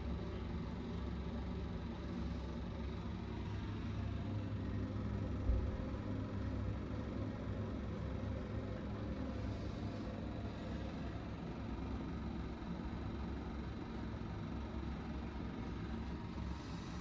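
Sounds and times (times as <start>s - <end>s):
low room noise rumble: 0.0s - 17.0s.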